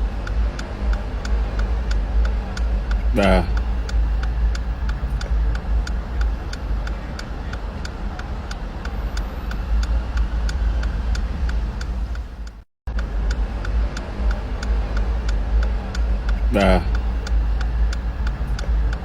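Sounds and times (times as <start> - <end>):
road traffic rumble: 0.0 - 19.0
even ticking: 0.2 - 19.0.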